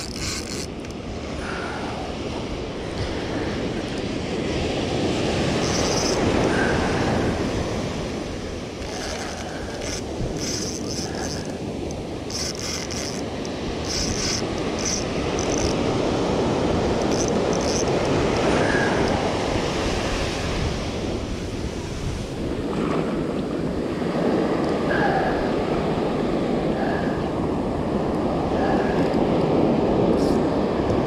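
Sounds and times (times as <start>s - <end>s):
ocean surf breaking on shore: 0.0s - 31.0s
wind buffeting microphone: 0.0s - 31.0s.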